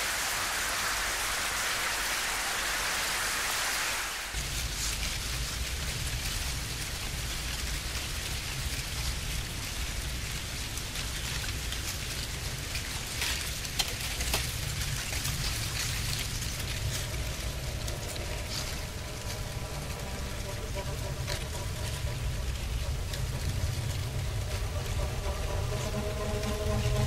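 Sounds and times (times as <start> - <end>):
dry cornstalks rustling: 0.0 - 27.0
steady low rumble: 4.4 - 27.0.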